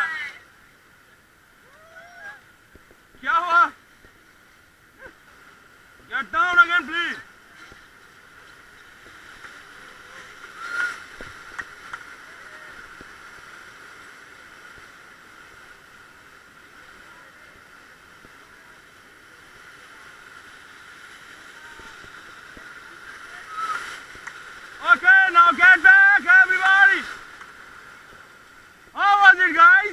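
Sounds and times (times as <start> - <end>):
rushing white water: 0.0 - 29.9.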